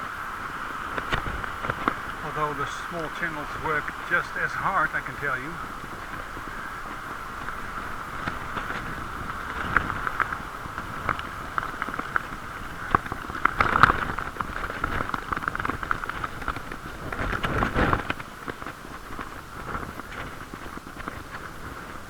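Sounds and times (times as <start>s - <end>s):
bicycle riding noise: 0.0s - 22.0s
wind: 0.0s - 22.0s
wind gust rumbling on case: 0.0s - 22.0s.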